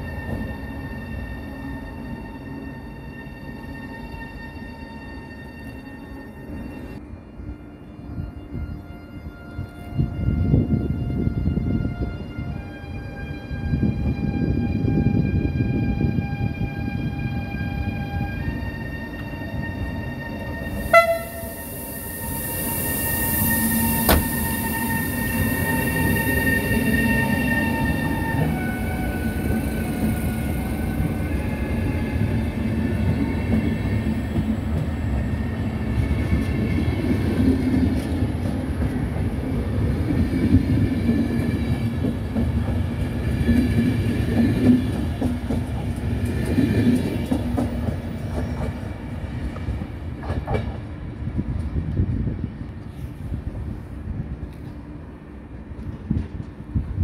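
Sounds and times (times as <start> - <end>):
electric locomotive drive whining: 0.0 - 57.0.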